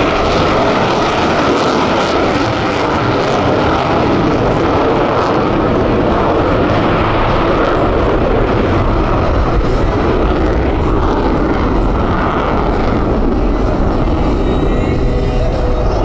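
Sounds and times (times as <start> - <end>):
jet engine roaring: 0.0 - 16.0.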